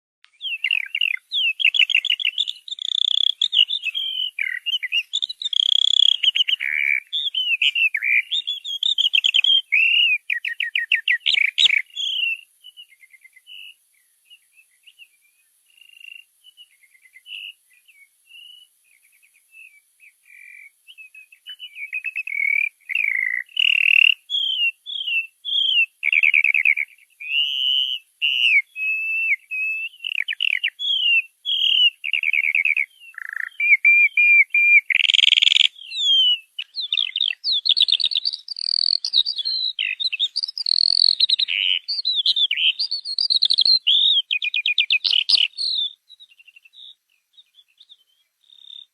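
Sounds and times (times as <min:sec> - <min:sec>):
songbirds singing: 0:00.2 - 0:48.9.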